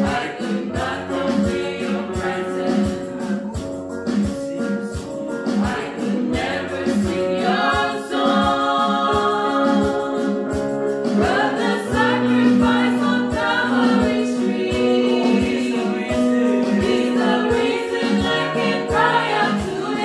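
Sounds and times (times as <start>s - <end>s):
group singing gospel song: 0.0s - 3.7s, 4.3s - 20.0s
electric keyboard: 0.0s - 20.0s.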